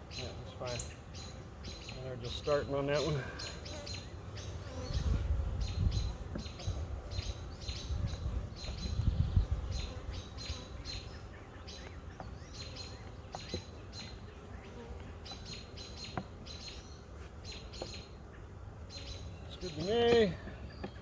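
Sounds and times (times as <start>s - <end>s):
small bird chirping: 0.1s - 21.0s.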